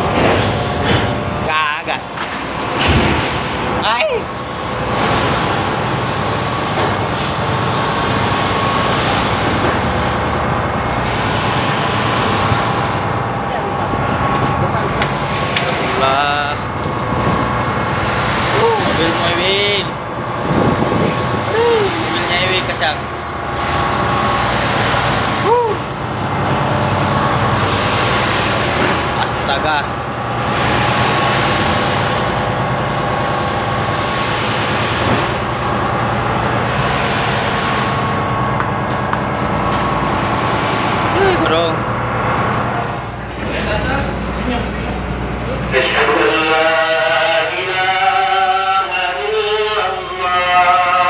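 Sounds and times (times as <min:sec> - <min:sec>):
waves: 0:00.0 - 0:46.8
wind: 0:00.0 - 0:47.4
ferry engine drone: 0:00.0 - 0:51.0
rushing noise: 0:00.0 - 0:51.0.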